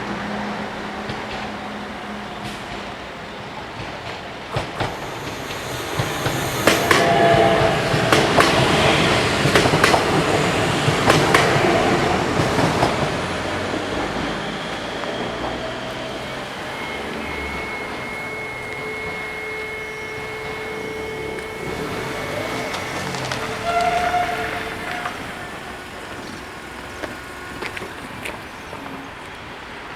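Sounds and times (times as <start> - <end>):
train rumble: 0.0 - 29.9
train wheels clacking over joints: 0.0 - 29.9.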